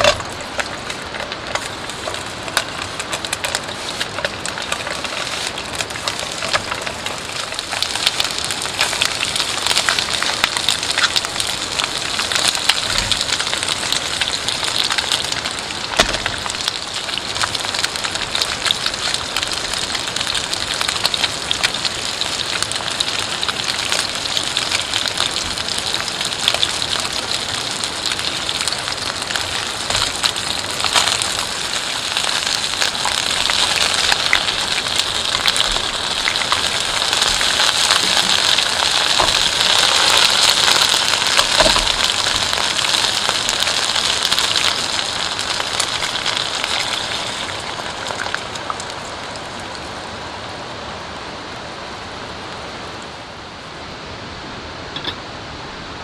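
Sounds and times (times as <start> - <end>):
chicken wings sizzling in oil: 0.0 - 49.8.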